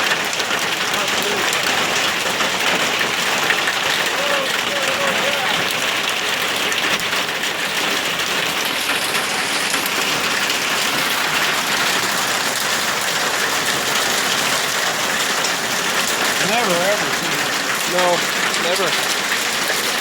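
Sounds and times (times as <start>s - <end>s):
heavy hail clattering: 0.0s - 20.0s.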